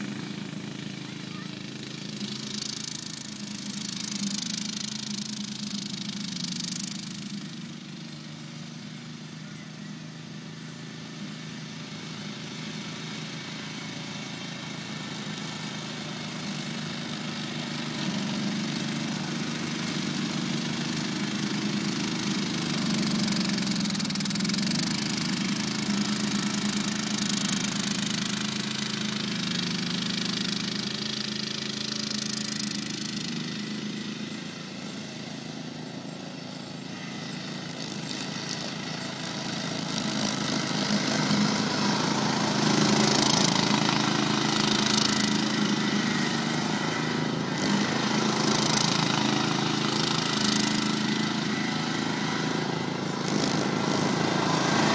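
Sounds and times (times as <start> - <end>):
mower engine running under load: 0.0 - 54.9.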